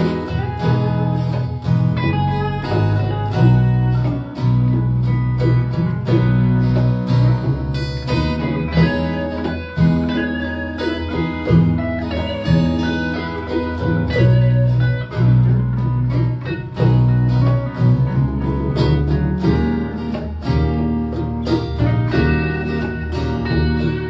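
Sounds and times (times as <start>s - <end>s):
guitar playing: 0.0s - 24.0s
low bass notes: 0.0s - 24.0s.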